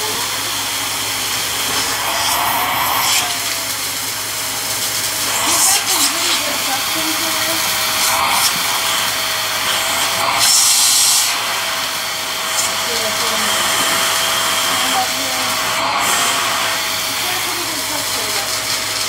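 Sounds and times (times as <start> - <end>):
handheld vacuum running: 0.0 - 19.0.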